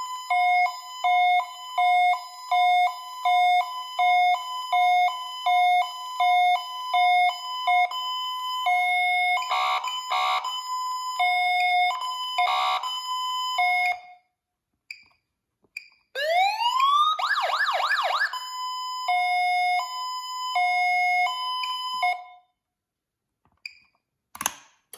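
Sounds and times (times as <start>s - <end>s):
electronic siren: 0.0s - 14.1s, 16.2s - 22.4s.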